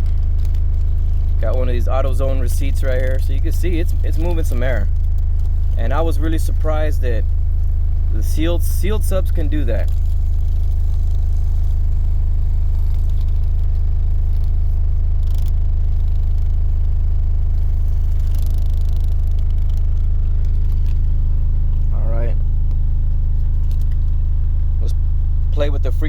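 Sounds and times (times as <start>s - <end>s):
loud sub-bass test tone: 0.0s - 26.0s.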